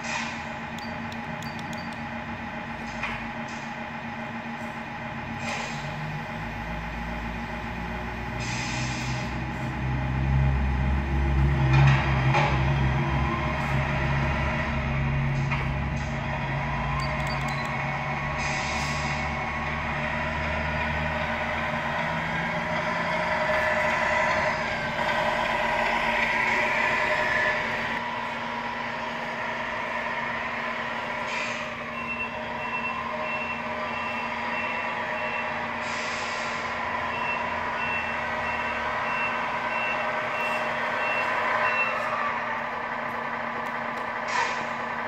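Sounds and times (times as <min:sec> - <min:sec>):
diesel truck engine from small speaker: 0:00.0 - 0:45.0.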